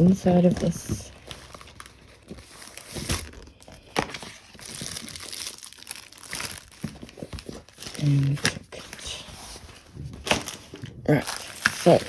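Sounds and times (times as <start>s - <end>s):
plastic and paper crinkling: 0.0s - 12.0s.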